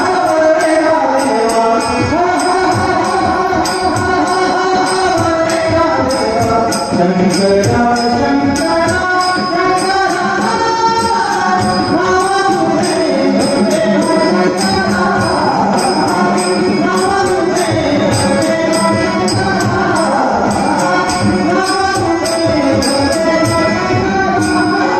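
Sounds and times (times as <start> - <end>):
harmonium: 0.0 - 24.9
man singing with vibrato: 0.0 - 24.9.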